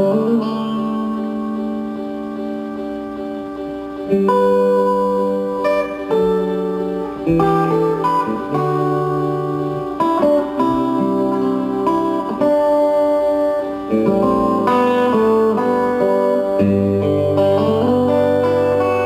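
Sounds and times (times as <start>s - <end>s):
guitar playing: 0.0s - 19.0s.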